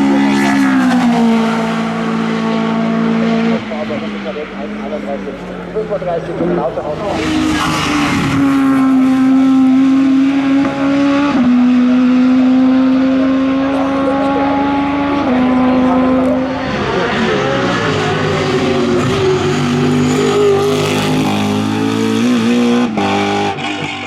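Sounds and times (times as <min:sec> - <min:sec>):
race car engine at full throttle: 0:00.0 - 0:24.0.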